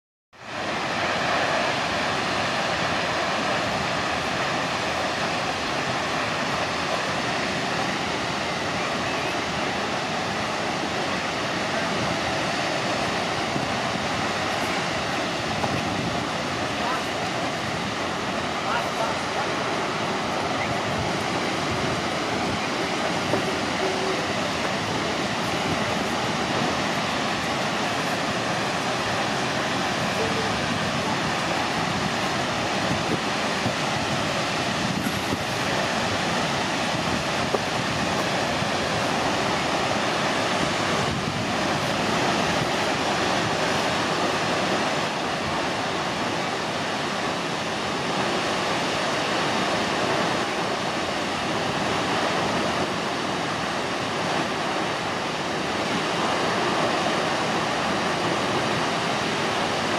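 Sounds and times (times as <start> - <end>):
waterfall rushing: 0.4 - 59.9.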